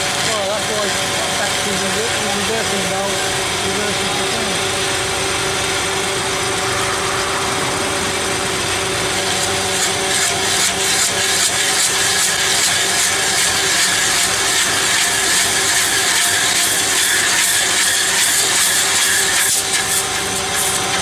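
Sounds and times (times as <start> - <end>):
cutter rasping into wood: 0.0 - 6.6, 8.8 - 21.0
wood shredder engine running: 0.0 - 21.0.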